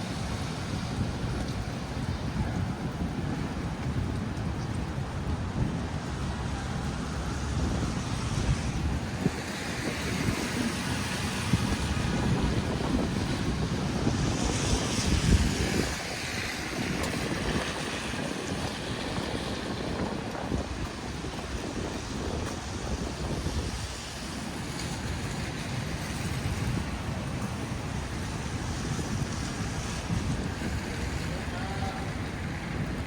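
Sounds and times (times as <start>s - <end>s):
traffic rumble: 0.0s - 33.0s
wind on microphone: 0.0s - 33.0s.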